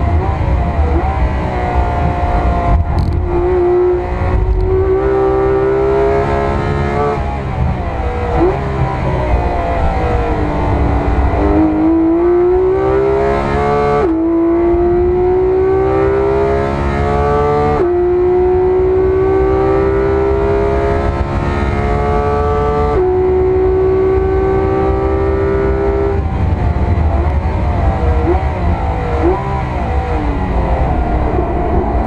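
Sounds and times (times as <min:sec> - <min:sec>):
car engine at full throttle: 0:00.0 - 0:32.0.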